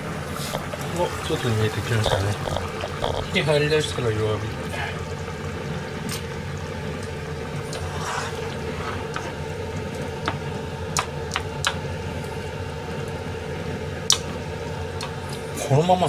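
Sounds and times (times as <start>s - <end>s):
low hum of gas stove: 0.0s - 16.0s.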